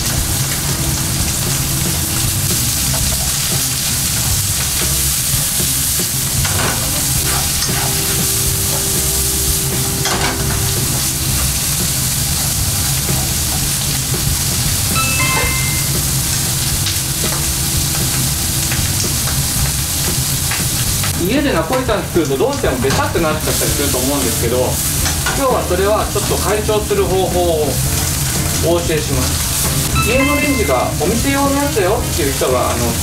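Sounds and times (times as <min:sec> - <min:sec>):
food sizzling in a frying pan: 0:00.0 - 0:33.0.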